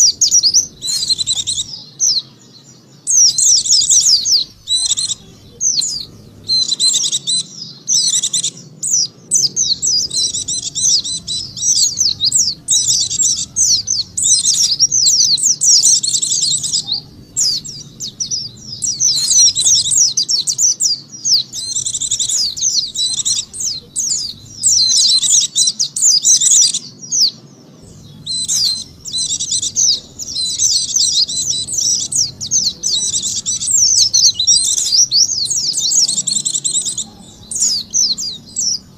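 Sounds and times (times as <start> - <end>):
bird twittering high chirps: 0.0 - 38.9.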